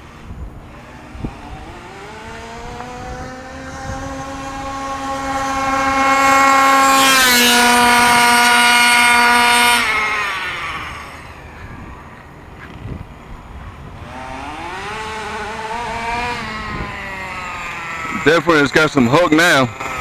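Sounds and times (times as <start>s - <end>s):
rc buggy engine at full throttle: 0.0s - 20.0s.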